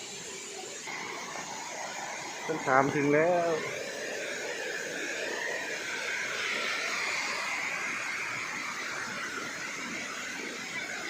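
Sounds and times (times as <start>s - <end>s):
waterfall rushing: 0.7s - 11.0s.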